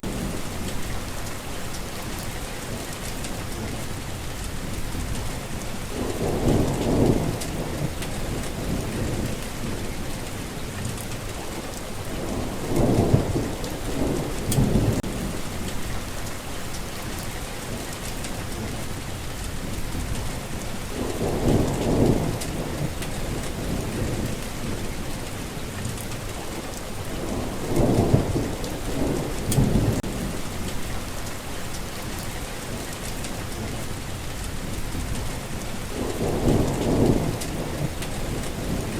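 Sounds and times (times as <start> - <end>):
steady rain falling: 0.0 - 38.9
thunder rumbling: 0.0 - 38.9.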